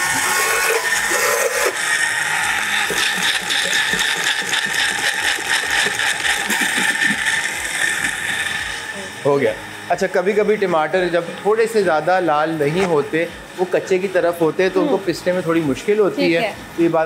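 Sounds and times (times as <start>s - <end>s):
blender grinding: 0.0s - 15.5s.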